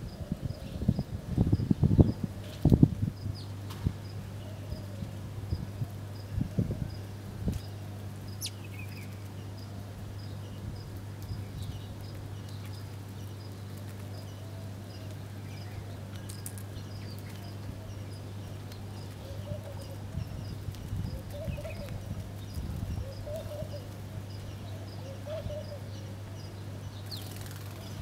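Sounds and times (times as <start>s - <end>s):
sparrows chirping: 0.0s - 28.0s.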